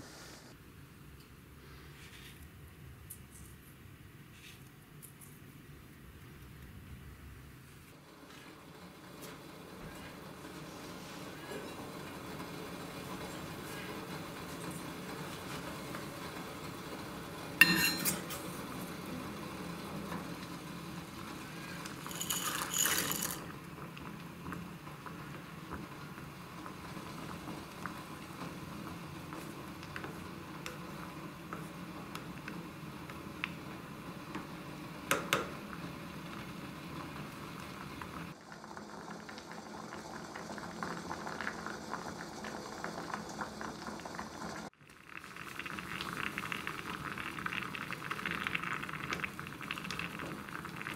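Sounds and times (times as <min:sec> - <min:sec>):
water boiling in a pot: 0:07.9 - 0:50.9.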